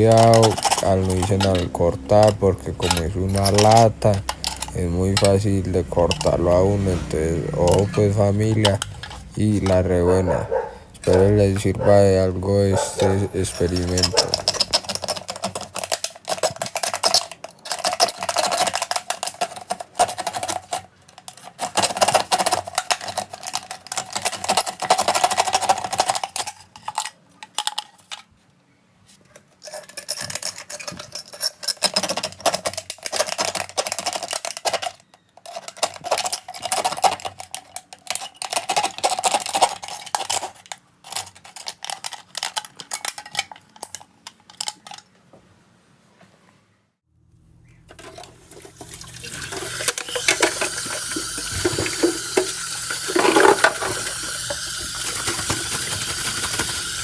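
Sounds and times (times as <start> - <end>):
metal cans clicking and clinking: 0.0 - 28.2, 29.6 - 45.1, 47.9 - 57.0.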